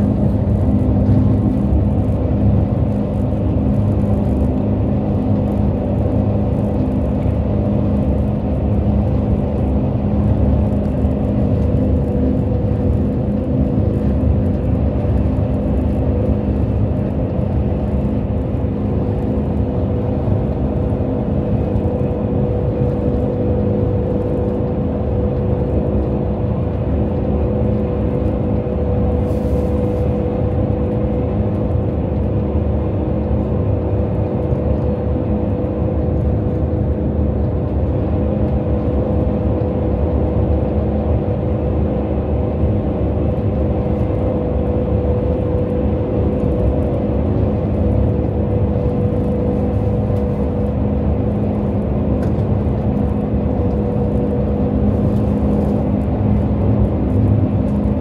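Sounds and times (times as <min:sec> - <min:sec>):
train cabin rumble: 0:00.0 - 0:58.0.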